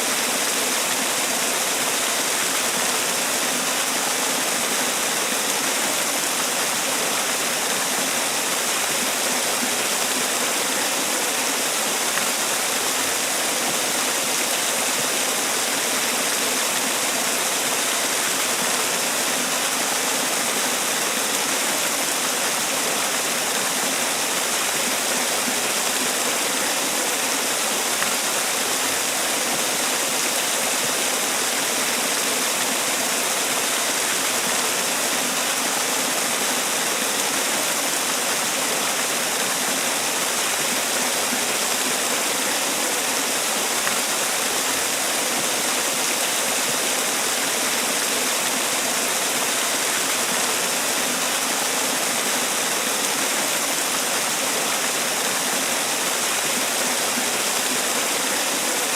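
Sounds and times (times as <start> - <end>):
waterfall splashing: 0.0 - 58.9.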